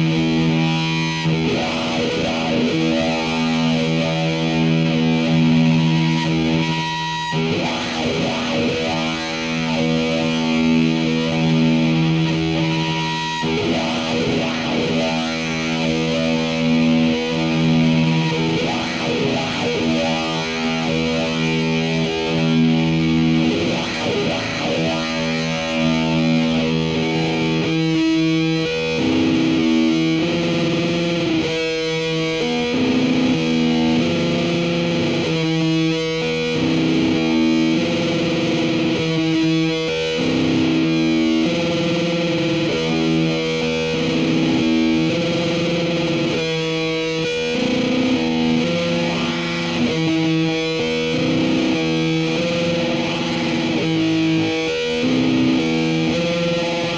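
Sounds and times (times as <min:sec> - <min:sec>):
distorted electric guitar chords: 0:00.0 - 0:56.9.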